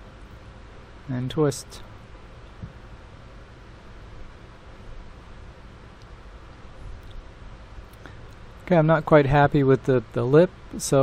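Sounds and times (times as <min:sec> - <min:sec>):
microphone room tone hiss: 0:00.0 - 0:11.0.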